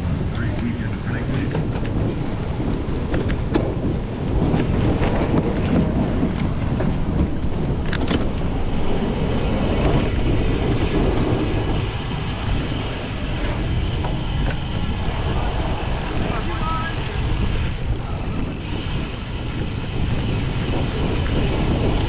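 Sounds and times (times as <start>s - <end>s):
bike rumbling over rough ground: 0.0s - 22.0s
wind buffeting microphone: 0.0s - 22.0s.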